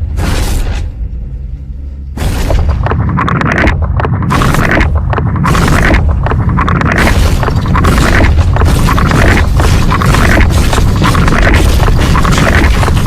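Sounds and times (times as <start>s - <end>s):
explosive blast with low rumble: 2.1s - 13.0s.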